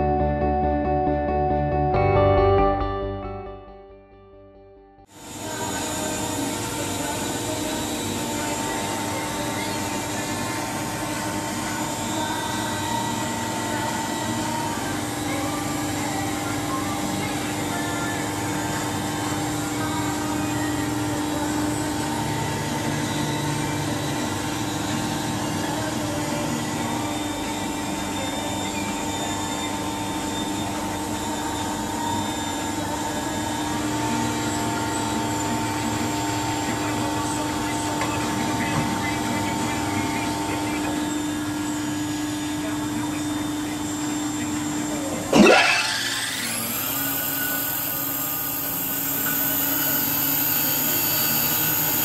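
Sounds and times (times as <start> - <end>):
surface grinder humming and whining: 5.0 - 52.0.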